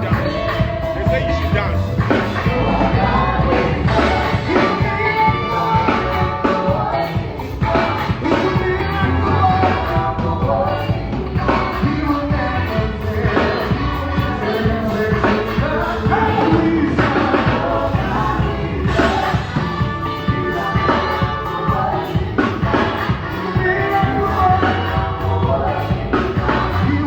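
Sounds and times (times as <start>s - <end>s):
band playing: 0.0s - 27.0s.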